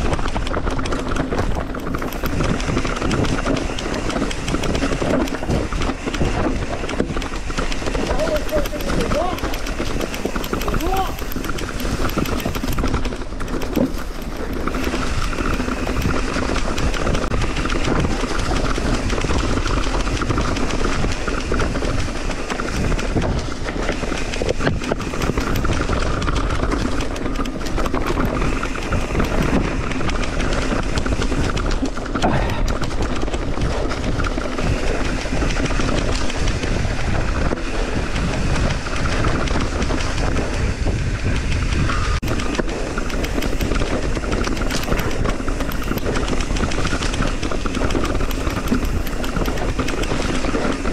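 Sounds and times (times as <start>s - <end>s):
bike rattling over rocks: 0.0s - 50.9s
bike tyres rumbling: 0.0s - 50.9s
wind buffeting microphone: 0.0s - 50.9s.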